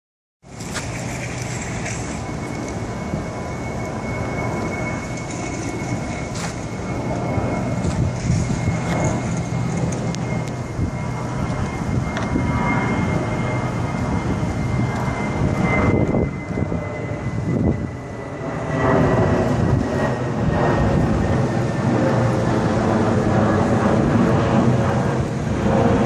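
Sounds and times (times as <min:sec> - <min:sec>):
vehicle and traffic rumble: 0:00.4 - 0:26.0
faint high whine: 0:00.5 - 0:26.0.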